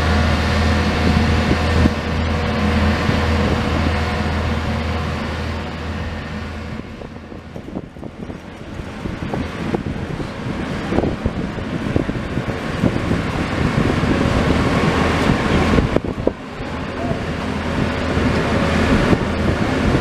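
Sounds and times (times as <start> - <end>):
diesel engine low hum: 0.0 - 20.0
knocks and clatter of rail work: 0.0 - 20.0.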